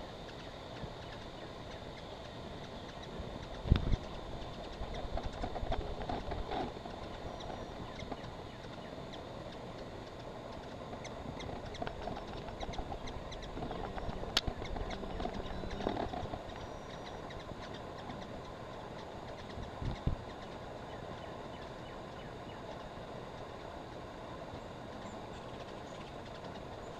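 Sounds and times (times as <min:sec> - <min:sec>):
hummingbird wings humming: 0:00.0 - 0:26.9
steady outdoor hiss: 0:00.0 - 0:26.9.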